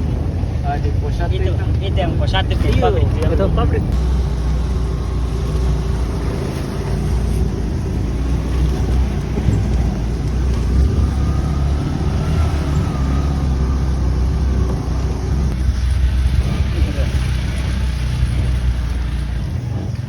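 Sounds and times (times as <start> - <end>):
road vehicle rumble: 0.0 - 20.0.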